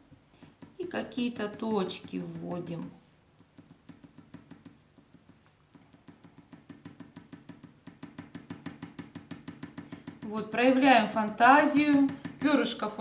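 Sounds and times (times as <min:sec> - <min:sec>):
marker tapping on paper: 0:00.4 - 0:13.0.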